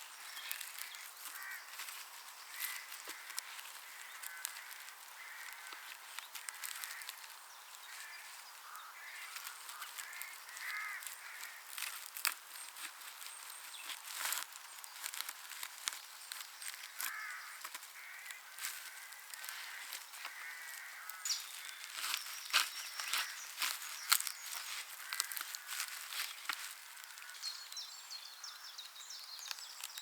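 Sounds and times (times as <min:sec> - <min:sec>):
birds calling: 0:00.0 - 0:30.0
sharp crackling clicks: 0:00.4 - 0:07.8, 0:09.2 - 0:27.4.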